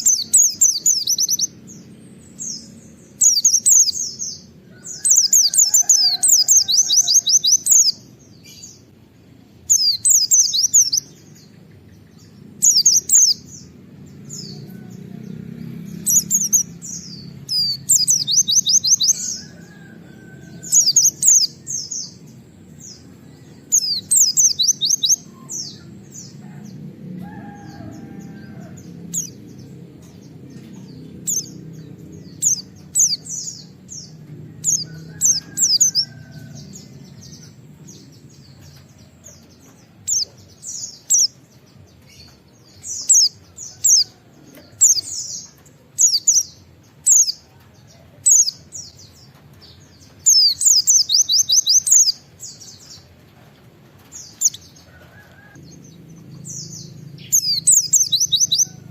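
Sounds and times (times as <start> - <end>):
low background rumble: 0.0 - 58.9.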